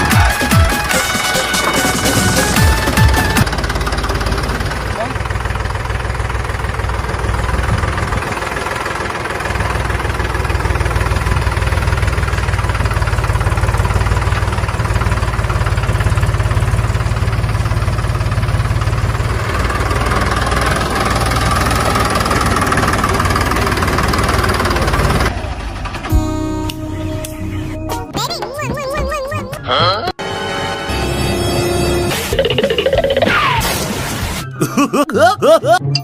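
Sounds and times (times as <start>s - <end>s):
tractor engine rumbling: 0.0s - 36.0s.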